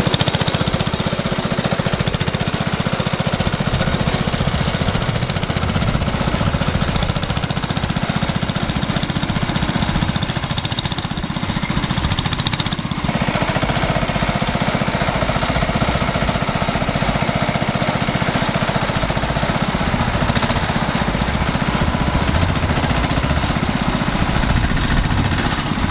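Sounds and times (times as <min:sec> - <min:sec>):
garden tractor engine under load: 0:00.0 - 0:25.9.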